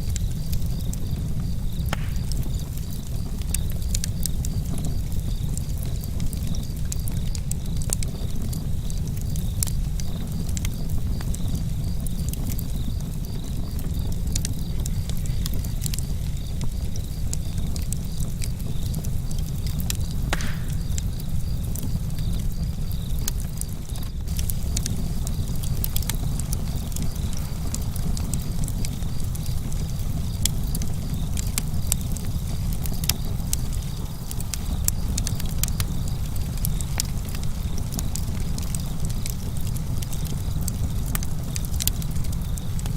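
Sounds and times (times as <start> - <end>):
campfire crackling: 0.0 - 42.9
crickets chirping: 0.0 - 42.9.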